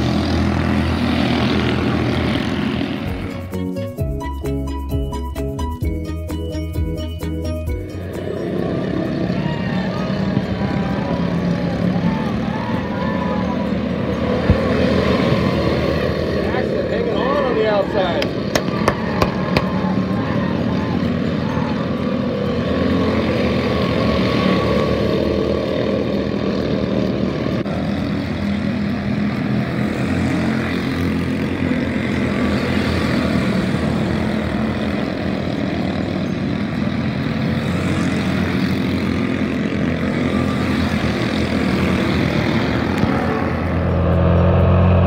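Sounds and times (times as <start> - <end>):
small race car engines droning: 0.0 - 45.0.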